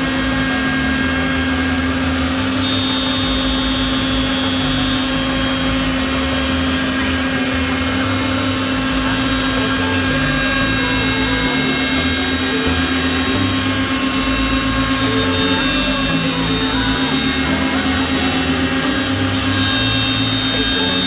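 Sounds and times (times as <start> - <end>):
router spindles humming: 0.0 - 21.0
wood cutting noise: 0.0 - 21.0.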